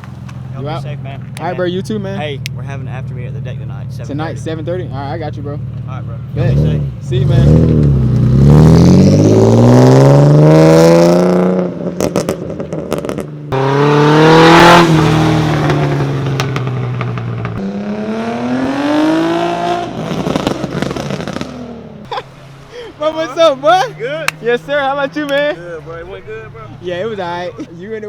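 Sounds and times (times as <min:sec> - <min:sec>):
car engine revving: 0:00.0 - 0:27.7.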